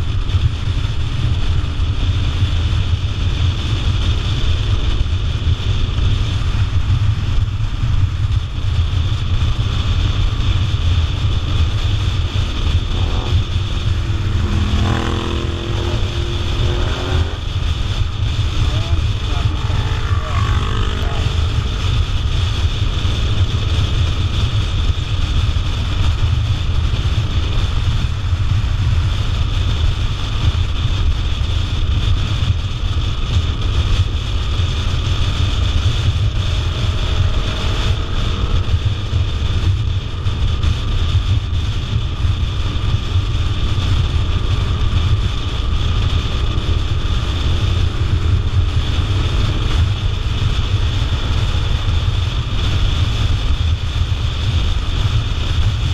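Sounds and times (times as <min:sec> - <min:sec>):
motorcycle engine: 0:00.0 - 0:55.9
wind buffeting microphone: 0:00.0 - 0:55.9.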